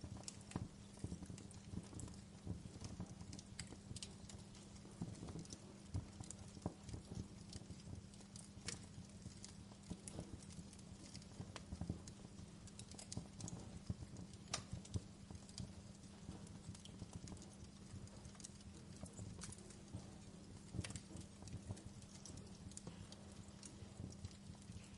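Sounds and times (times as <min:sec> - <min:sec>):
low steady hum: 0:00.0 - 0:24.9
wood fire crackling: 0:00.0 - 0:24.9.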